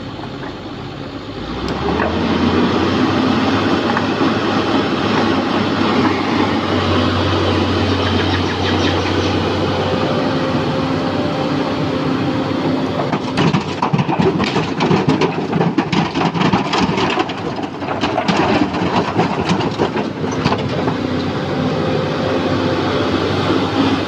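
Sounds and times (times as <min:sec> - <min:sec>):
excavator diesel engine hum: 0:00.0 - 0:24.0.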